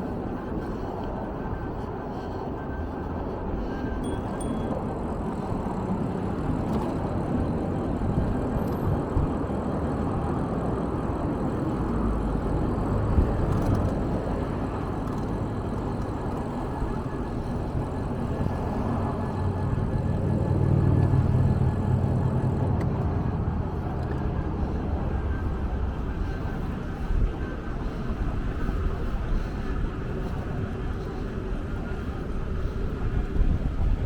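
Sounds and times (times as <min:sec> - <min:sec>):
motor vehicle running: 0:00.0 - 0:34.0.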